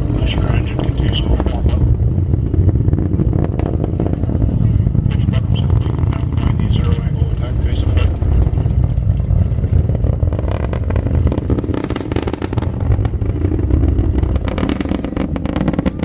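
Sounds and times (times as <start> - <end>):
rocket engine rumble: 0.0 - 16.0
sharp crackling: 0.0 - 16.0.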